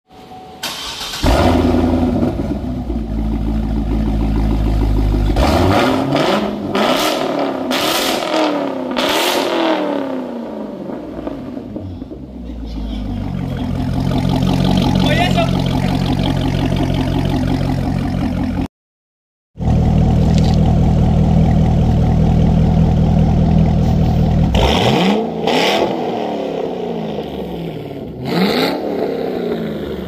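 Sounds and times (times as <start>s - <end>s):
car engine idling and revving: 0.7s - 18.7s, 19.6s - 30.0s.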